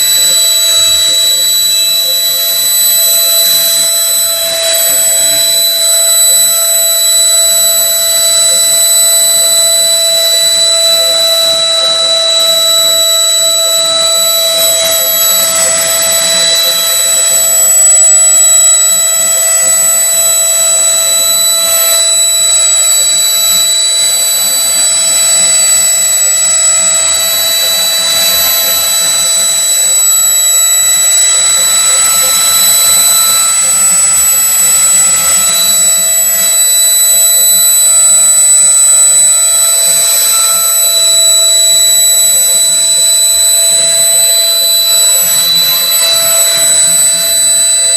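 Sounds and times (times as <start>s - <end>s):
cnc spindle high whine: 0.0s - 47.9s.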